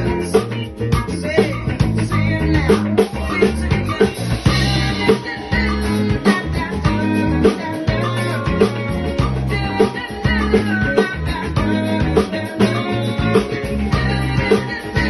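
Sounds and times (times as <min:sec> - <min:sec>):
drums: 0:00.0 - 0:15.0
electric bass playing funk: 0:00.0 - 0:15.0
person singing: 0:00.0 - 0:15.0.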